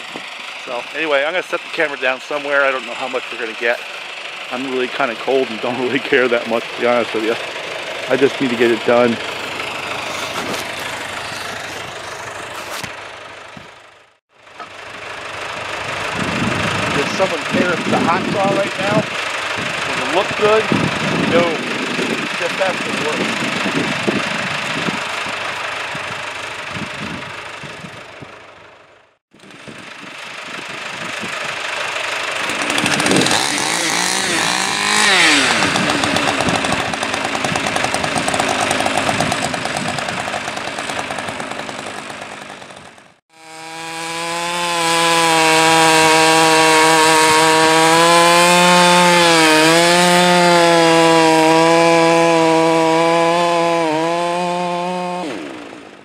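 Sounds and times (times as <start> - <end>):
chainsaw cutting logs: 0.0 - 28.0, 29.4 - 56.0.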